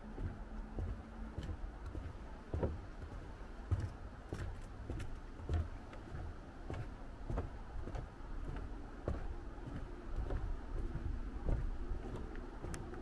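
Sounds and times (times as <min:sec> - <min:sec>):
footsteps on wooden boardwalk: 0:00.0 - 0:13.0.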